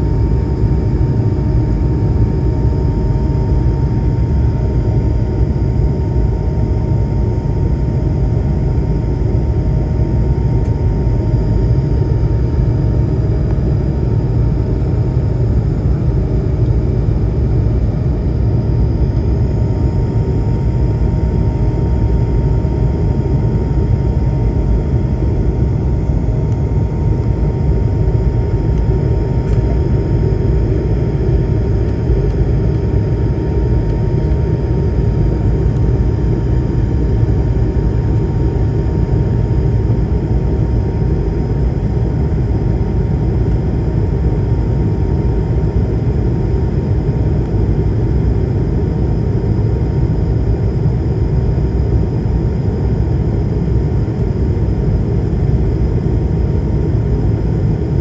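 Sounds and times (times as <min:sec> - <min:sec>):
jet engine low rumble: 0:00.0 - 0:58.0.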